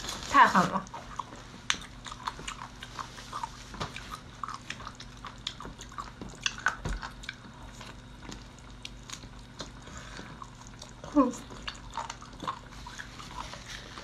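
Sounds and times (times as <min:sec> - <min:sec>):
wet eating sounds: 0:00.0 - 0:14.0.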